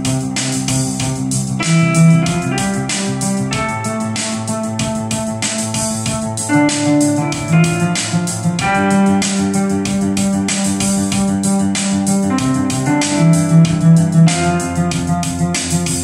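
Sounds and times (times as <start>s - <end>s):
electronic drum beat: 0.0s - 16.0s
electronic keyboard chords: 0.0s - 16.0s.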